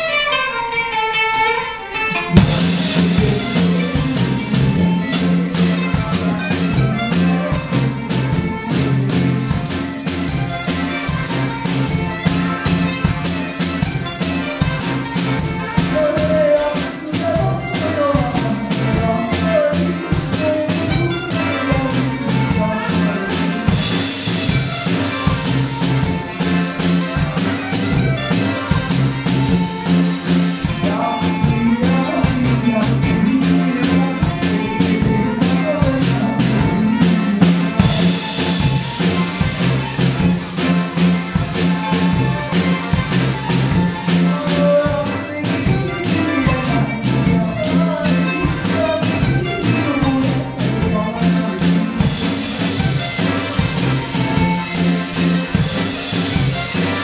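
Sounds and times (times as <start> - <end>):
acoustic band playing: 0.0 - 57.0
plucked string melody: 0.0 - 57.0.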